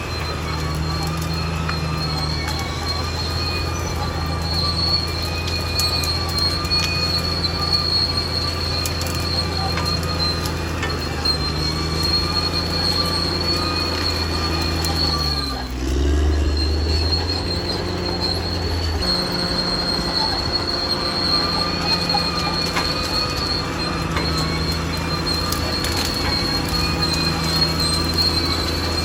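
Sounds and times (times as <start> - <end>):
bulldozer diesel engine: 0.0 - 29.0
steel tracks squealing: 0.0 - 29.0.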